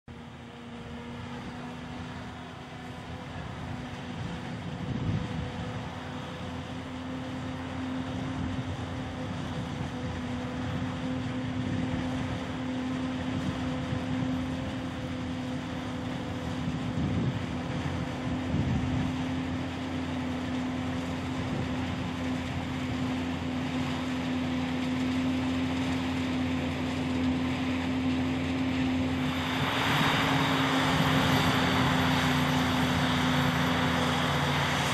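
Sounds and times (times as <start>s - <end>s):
forage harvester drone: 0.1s - 34.9s.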